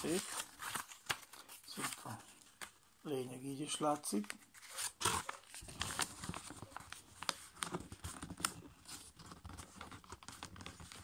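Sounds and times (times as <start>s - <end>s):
paper rustling and crackling: 0.0s - 2.8s, 4.1s - 11.0s.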